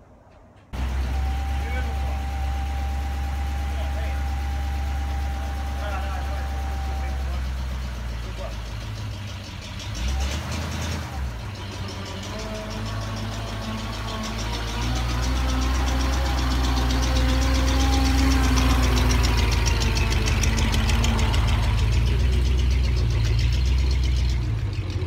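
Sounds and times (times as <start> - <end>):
truck engine running at low revs: 0.4 - 25.0.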